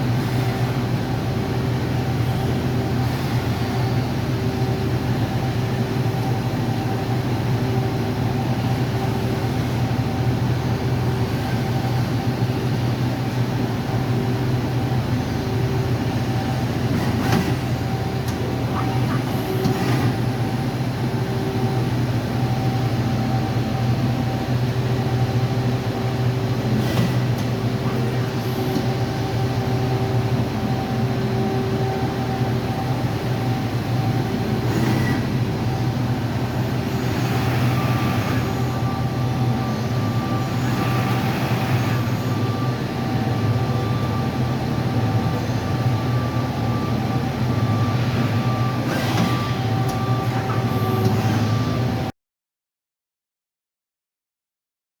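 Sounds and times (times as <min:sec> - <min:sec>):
machine mechanical hum: 0:00.0 - 0:52.1.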